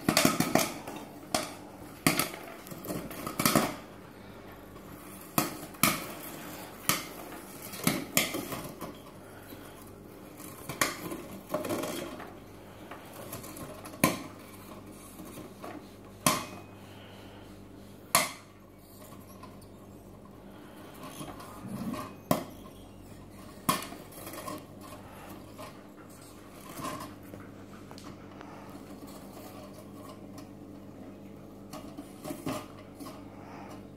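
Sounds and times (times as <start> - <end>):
popcorn popping: 0.0 - 33.9.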